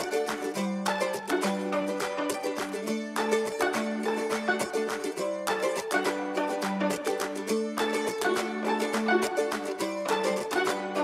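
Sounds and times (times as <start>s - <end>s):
plucked strings over a quick beat: 0.0s - 11.0s.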